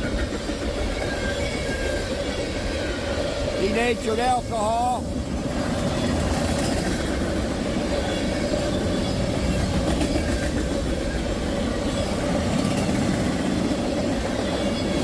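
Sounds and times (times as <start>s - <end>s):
wheels clattering on rails: 0.0s - 15.0s.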